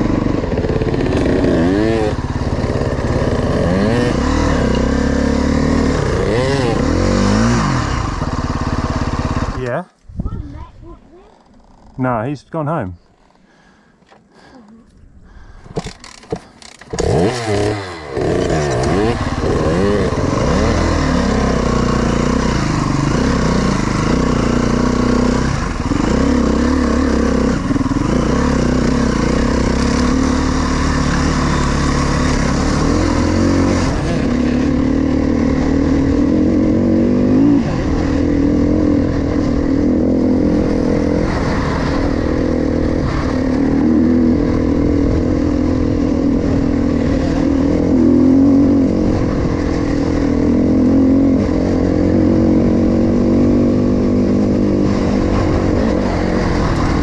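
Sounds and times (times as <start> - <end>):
dirt bike engine revving: 0.0 - 9.7, 15.8 - 57.0.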